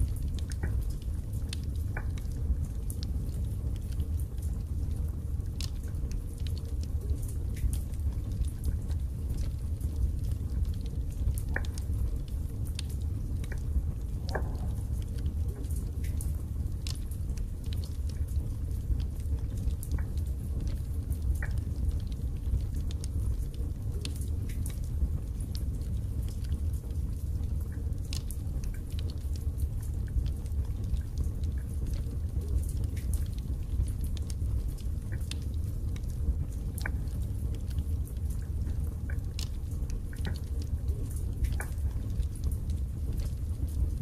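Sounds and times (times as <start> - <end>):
burning logs crackling and popping: 0.0 - 44.0
wood fire rumbling: 0.0 - 44.0.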